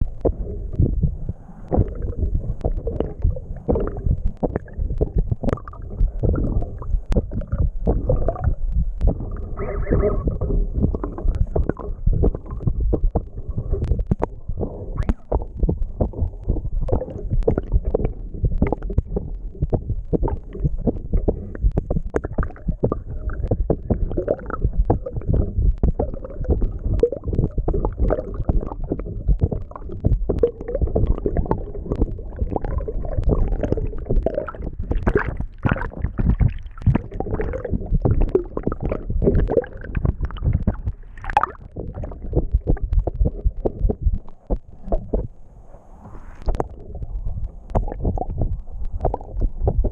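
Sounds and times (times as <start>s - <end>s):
underwater water rushing: 0.0s - 49.9s.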